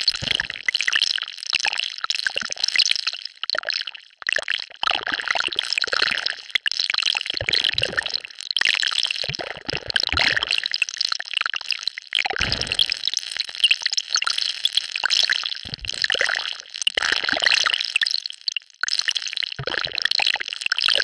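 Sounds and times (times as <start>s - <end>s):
wet bubbling and crackling liquid: 0.0s - 21.0s.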